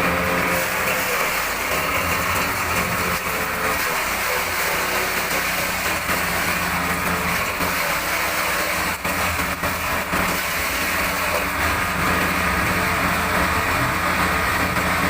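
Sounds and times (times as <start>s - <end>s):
forage chopper engine hum: 0.0s - 15.0s.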